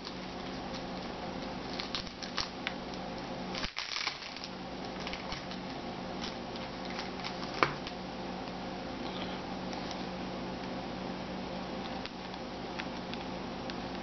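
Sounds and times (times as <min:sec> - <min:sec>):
low room tone hum: 0:00.0 - 0:14.0.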